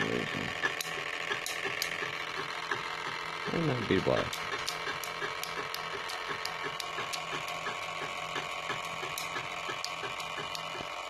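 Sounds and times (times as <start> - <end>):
motor ticking rhythmically: 0.0 - 11.0
motor whine: 0.0 - 11.0
sharp clicks: 0.5 - 3.5, 4.2 - 10.9.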